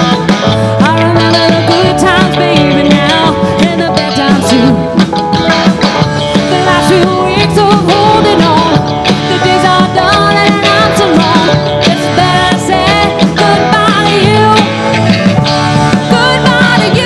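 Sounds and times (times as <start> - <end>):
drums: 0.0 - 17.0
electric guitar: 0.0 - 17.0
woman singing: 0.7 - 4.9, 6.3 - 14.9, 16.0 - 17.0.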